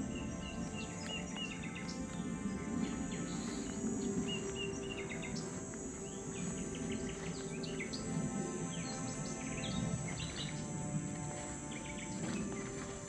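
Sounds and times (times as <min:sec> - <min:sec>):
cicadas droning: 0:00.0 - 0:13.0
small birds chirping: 0:00.0 - 0:13.0.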